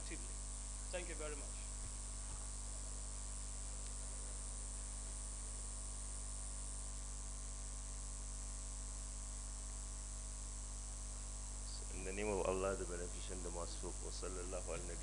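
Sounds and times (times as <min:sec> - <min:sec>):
electrical mains hum with hiss: 0:00.0 - 0:15.0
faint high whine: 0:00.0 - 0:15.0.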